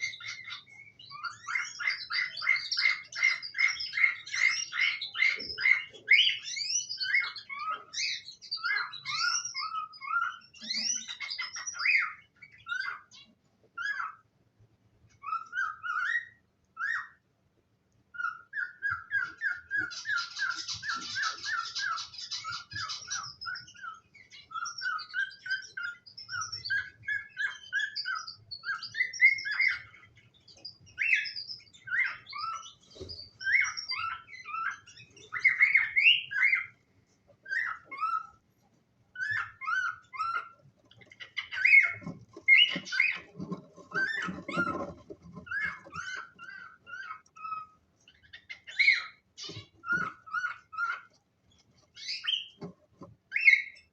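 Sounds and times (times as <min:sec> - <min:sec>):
cockatiels chirping: 0:00.0 - 0:14.4, 0:15.1 - 0:17.3, 0:18.1 - 0:53.9.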